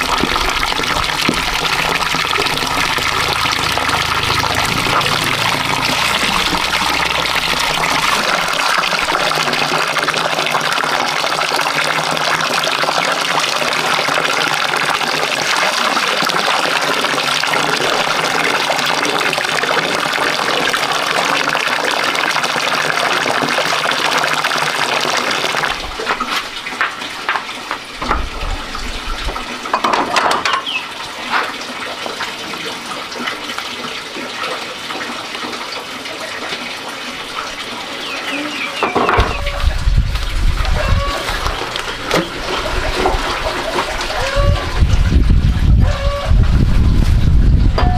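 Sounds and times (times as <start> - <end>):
water pouring from tap into basin: 0.0 - 47.9.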